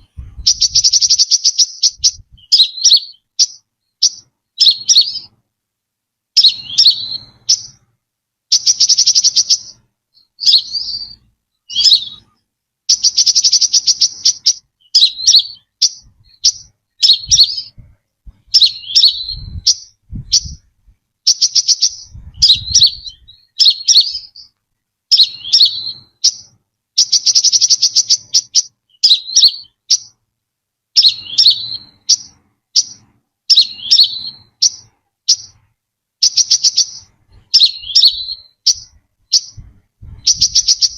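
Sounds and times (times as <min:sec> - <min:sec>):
bird singing with buzzy trills: 0:00.0 - 0:05.4, 0:06.4 - 0:30.2, 0:30.9 - 0:40.9.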